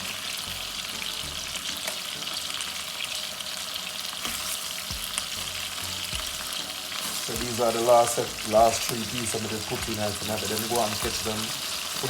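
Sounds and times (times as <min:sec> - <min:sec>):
chicken frying in a pot: 0:00.0 - 0:12.0.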